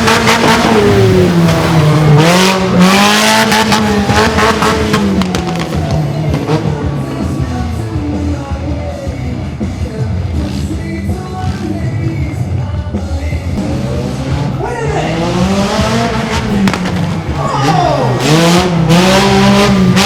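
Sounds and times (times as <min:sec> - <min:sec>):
tire and dirt noise: 0:00.0 - 0:20.0.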